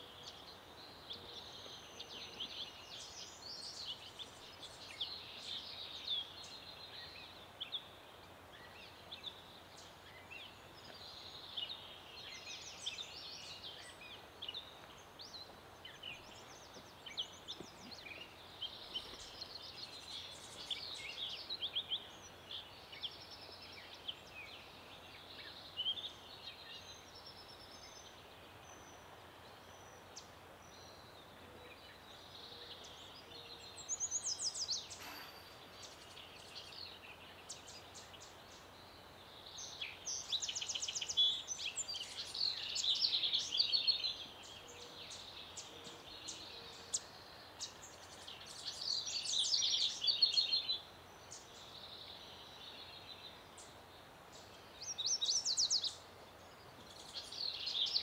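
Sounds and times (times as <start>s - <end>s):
faint outdoor hiss: 0.0s - 58.0s
songbirds trilling: 0.0s - 58.0s.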